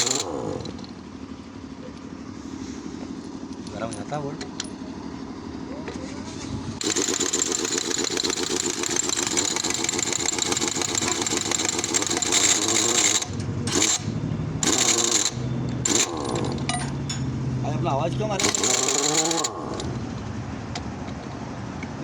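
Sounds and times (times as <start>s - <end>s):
excavator diesel engine running: 0.0s - 3.7s, 4.8s - 21.1s.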